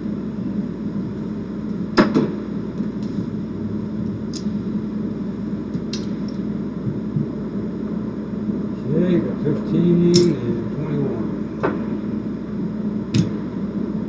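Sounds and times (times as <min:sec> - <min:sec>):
fan-like hum: 0:00.0 - 0:14.0.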